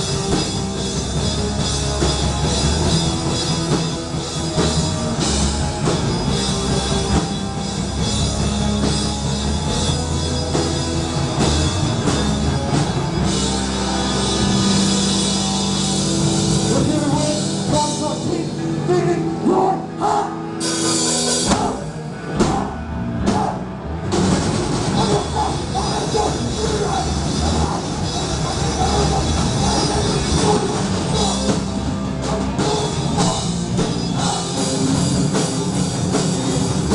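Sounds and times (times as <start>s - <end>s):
drum and cymbal hits: 0.0s - 18.2s, 20.6s - 36.9s
punk band playing loud: 0.0s - 36.9s.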